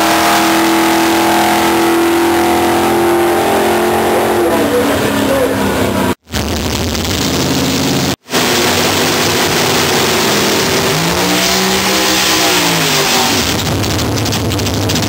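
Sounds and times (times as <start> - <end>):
drag car engine revving: 0.0 - 15.0.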